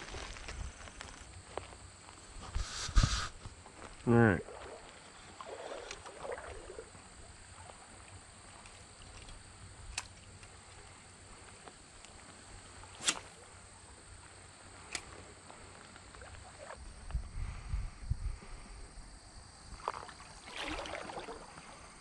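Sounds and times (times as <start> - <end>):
faint creekside ambience: 0.0 - 22.0.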